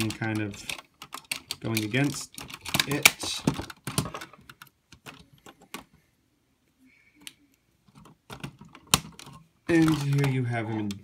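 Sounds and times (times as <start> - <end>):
plastic toy parts clicking: 0.0 - 5.9, 7.2 - 11.0.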